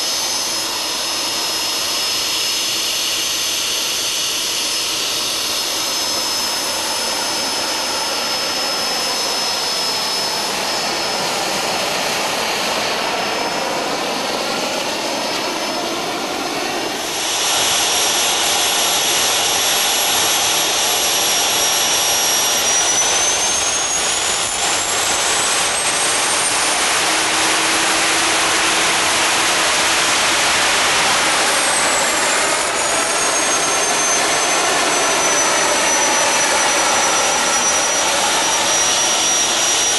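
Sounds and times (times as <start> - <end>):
high turbine whine: 0.0 - 39.9
jet engine running: 0.0 - 39.9.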